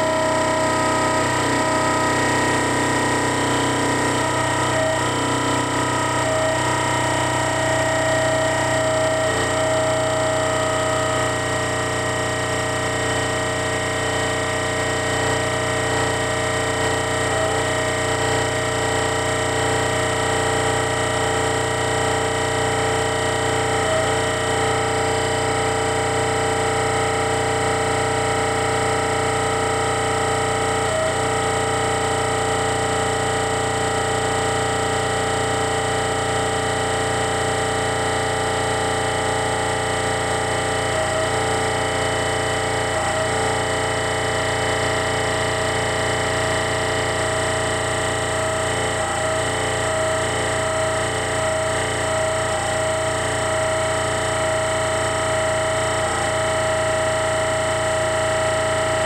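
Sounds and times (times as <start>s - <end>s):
air compressor running: 0.0s - 59.0s.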